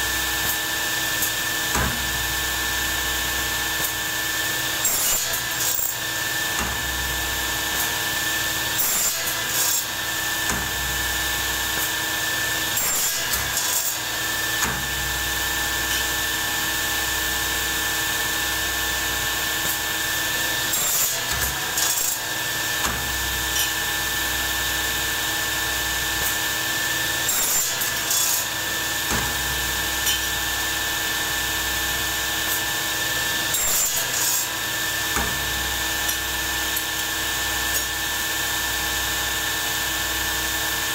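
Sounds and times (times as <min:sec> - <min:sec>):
power tool motor whine: 0:00.2 - 0:40.9.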